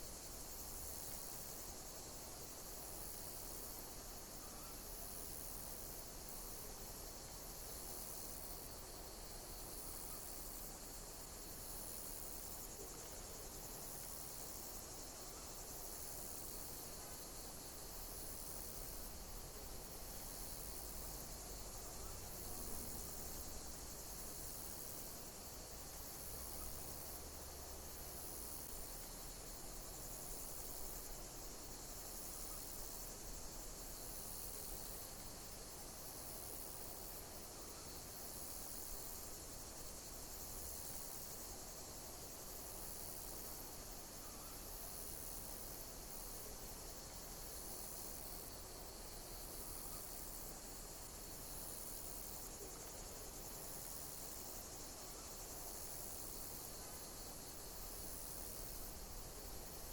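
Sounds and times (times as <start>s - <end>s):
shrill insect chorus: 0.0s - 59.9s.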